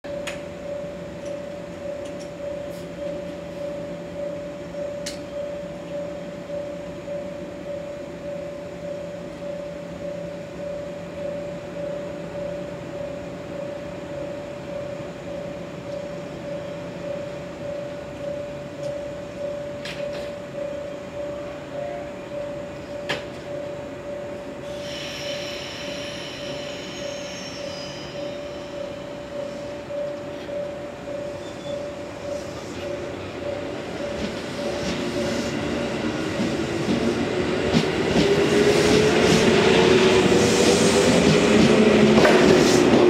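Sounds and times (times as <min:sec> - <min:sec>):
electric train humming: 0:00.0 - 0:43.0.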